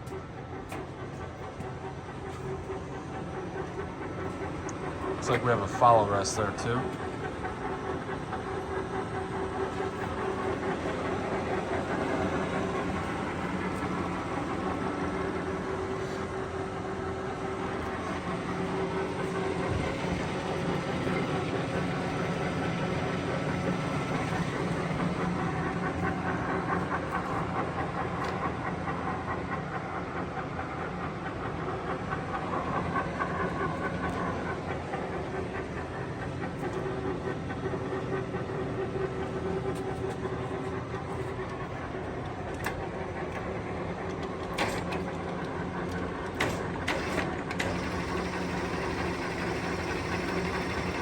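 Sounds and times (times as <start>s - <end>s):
lathe running: 0.0s - 51.0s.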